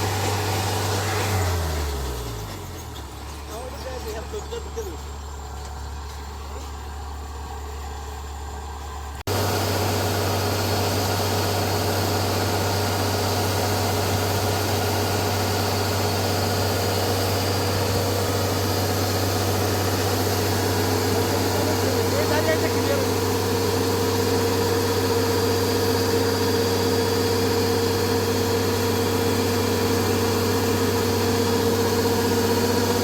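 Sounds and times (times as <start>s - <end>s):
harvester engine running: 0.0s - 33.0s
machinery noise with low hum: 0.0s - 33.0s.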